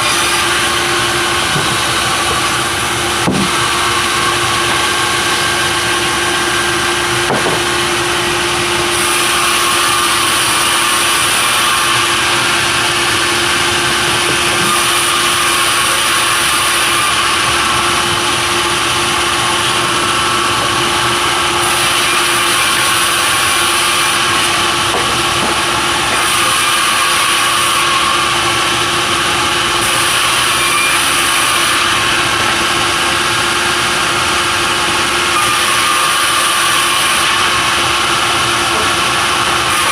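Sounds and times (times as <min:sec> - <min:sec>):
sawmill saw humming: 0:00.0 - 0:39.9.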